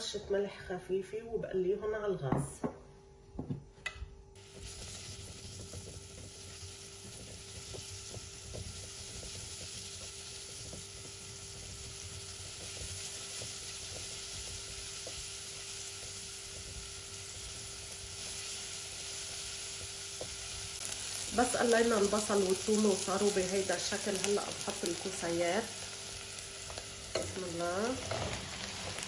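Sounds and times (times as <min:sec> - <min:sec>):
onion sizzling in hot oil: 0:04.4 - 0:29.0.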